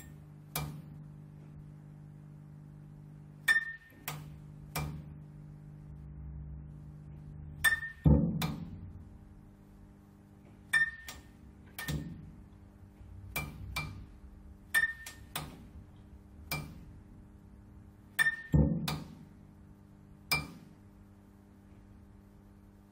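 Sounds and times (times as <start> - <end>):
low electrical hum: 0.0 - 22.9.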